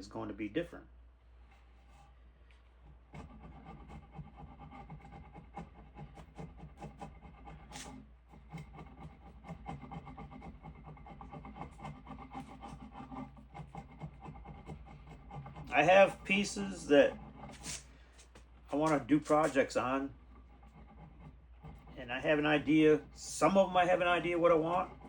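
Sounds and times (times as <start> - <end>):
rubbing and scraping on wood: 1.4 - 25.0.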